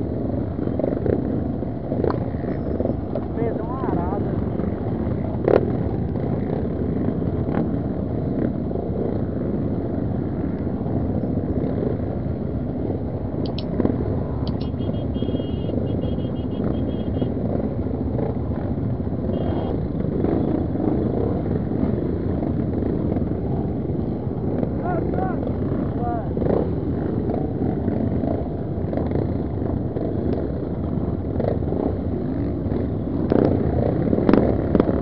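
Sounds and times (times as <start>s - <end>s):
many dirt-bike engines running: 0.0s - 35.0s.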